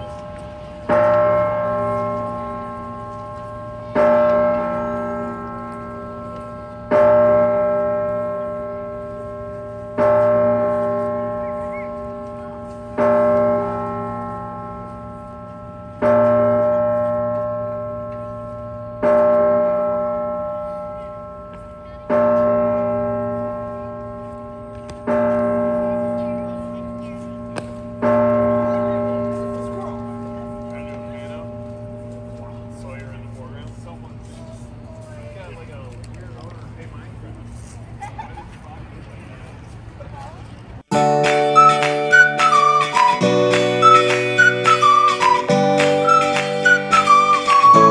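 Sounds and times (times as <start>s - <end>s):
tower bell tolling: 0.0s - 34.9s, 40.9s - 47.9s.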